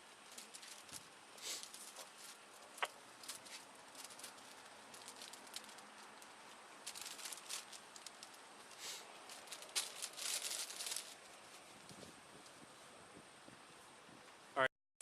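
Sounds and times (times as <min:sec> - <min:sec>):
rustling and crinkling: 0:00.0 - 0:14.4.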